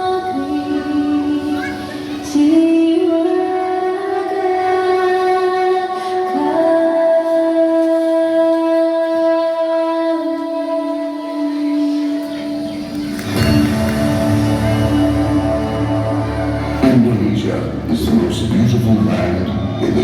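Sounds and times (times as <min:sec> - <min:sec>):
children's choir sustained notes: 0:00.0 - 0:07.0, 0:09.1 - 0:20.0
music: 0:00.0 - 0:20.0.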